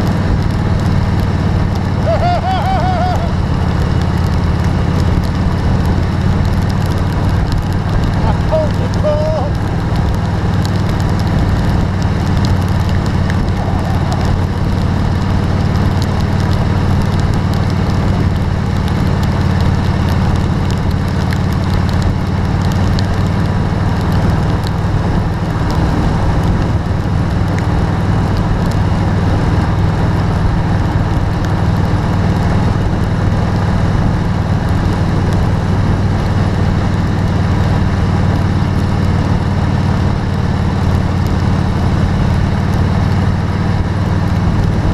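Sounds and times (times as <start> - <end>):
rain and tyre spray hiss: 0.0 - 44.9
vehicle engine and road noise: 0.0 - 44.9.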